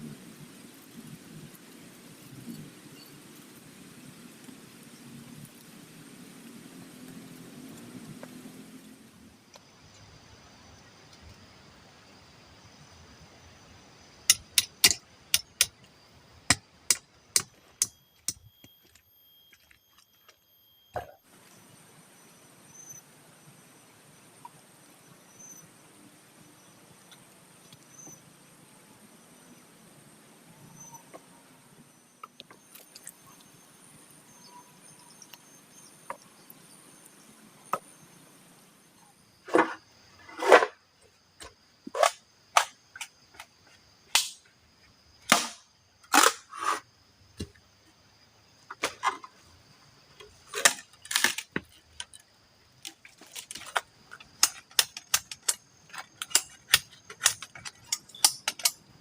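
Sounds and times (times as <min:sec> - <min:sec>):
insect chirring: 0:00.0 - 0:59.0.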